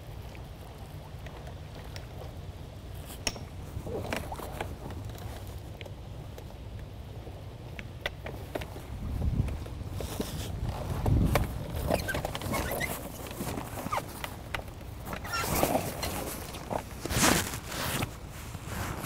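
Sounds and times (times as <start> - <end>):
kayak paddle strokes splashing: 0.0 - 19.0
water splashing and sloshing: 0.0 - 19.0.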